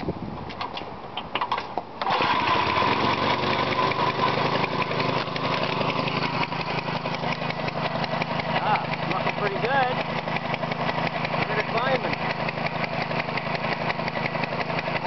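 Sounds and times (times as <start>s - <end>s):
lawn mower engine running: 0.6s - 15.0s.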